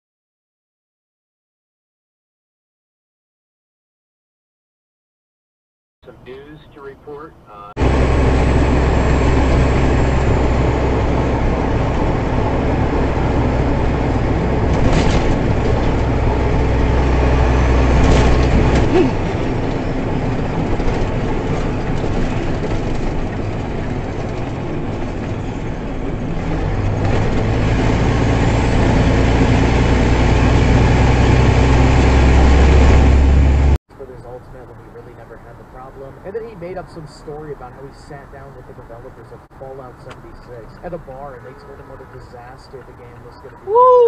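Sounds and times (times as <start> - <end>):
vehicle cabin engine and road rumble: 6.0 - 44.0.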